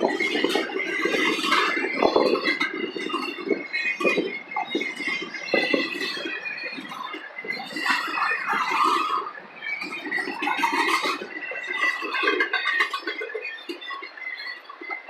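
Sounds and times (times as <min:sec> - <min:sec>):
train cars clanking and rattling: 0:00.0 - 0:14.9.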